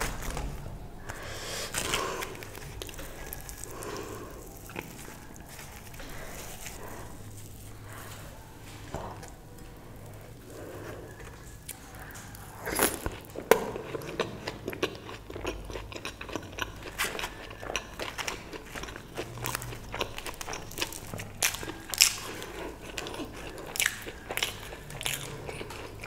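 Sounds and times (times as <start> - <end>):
crunching of crisp food: 0.0 - 26.0.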